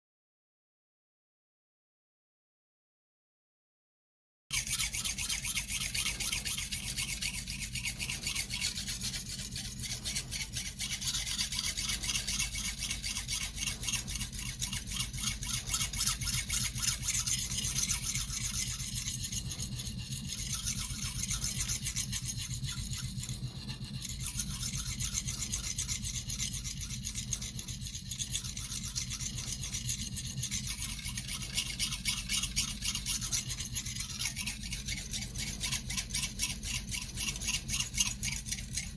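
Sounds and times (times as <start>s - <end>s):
knife scraping on whetstone: 4.5s - 38.9s.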